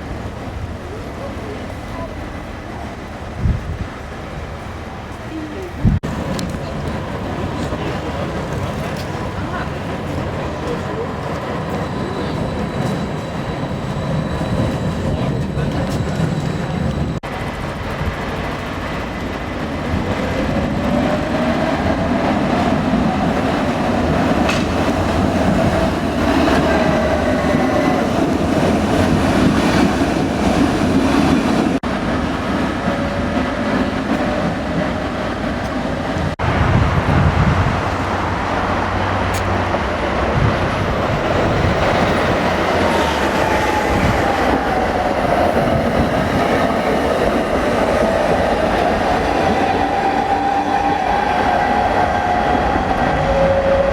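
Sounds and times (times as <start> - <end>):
tram rolling rumble with whine: 0.0 - 53.9.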